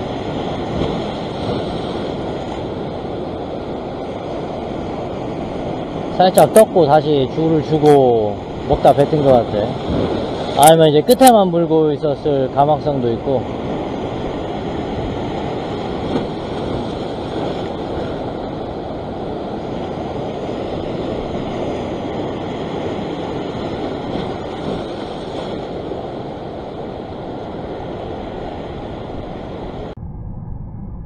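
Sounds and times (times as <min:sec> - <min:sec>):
surf washing over rocks: 0:00.0 - 0:29.9.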